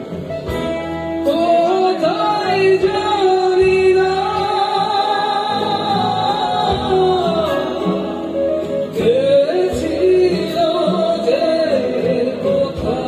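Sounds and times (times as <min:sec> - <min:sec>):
live rock band playing: 0:00.0 - 0:13.0
person singing long notes: 0:01.2 - 0:13.0.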